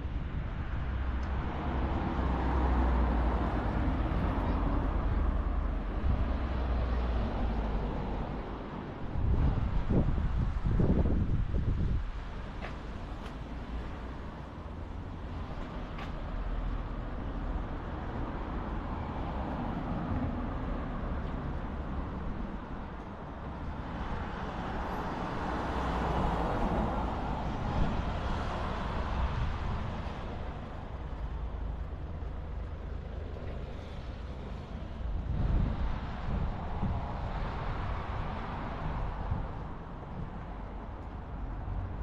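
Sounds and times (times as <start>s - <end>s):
cars driving past: 0.1s - 42.0s.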